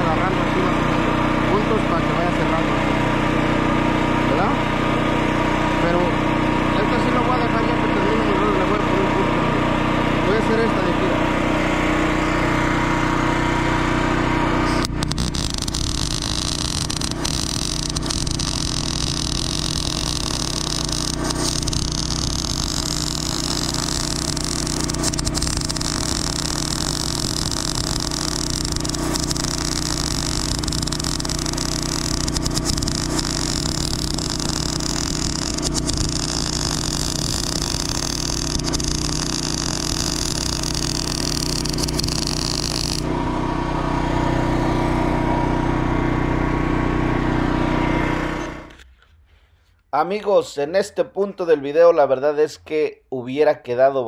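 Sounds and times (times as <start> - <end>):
welder arc buzzing: 0.0 - 48.8
engine running: 0.0 - 48.9.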